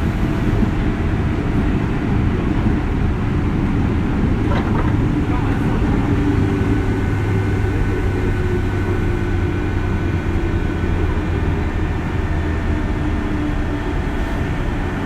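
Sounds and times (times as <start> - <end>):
low drive hum: 0.0 - 15.0
train wheels rumbling on rail: 0.0 - 15.0.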